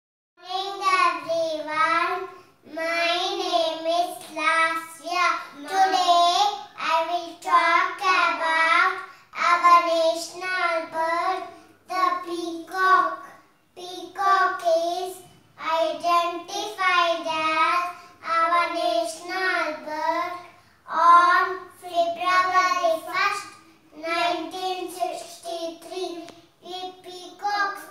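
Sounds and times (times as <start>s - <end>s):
child singing: 0.4s - 27.9s.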